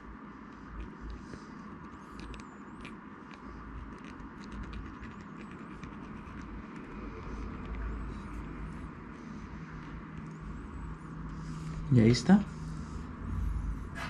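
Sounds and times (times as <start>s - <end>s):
low rumble and hum: 0.0s - 14.0s.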